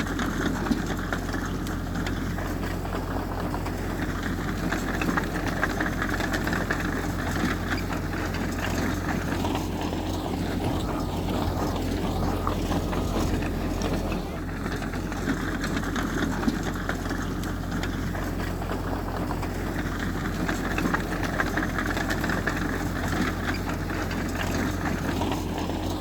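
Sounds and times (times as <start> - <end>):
diesel machine engine running: 0.0 - 26.0
light clatter: 0.0 - 26.0.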